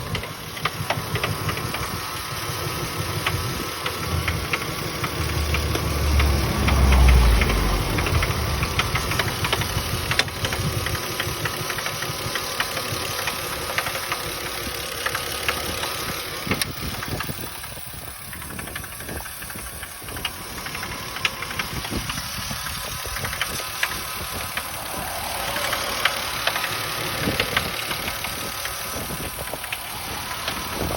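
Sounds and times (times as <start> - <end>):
rapid knocking from engine valve: 0.0 - 7.2, 7.9 - 30.9
car engine running: 0.0 - 30.9.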